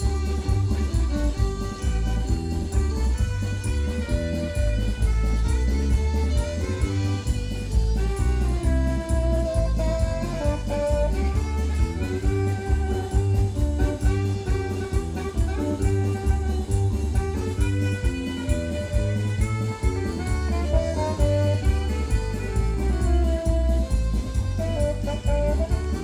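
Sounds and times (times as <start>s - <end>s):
drum kit and bass beat: 0.0s - 26.0s
saxophone and keyboard melody: 0.0s - 26.0s.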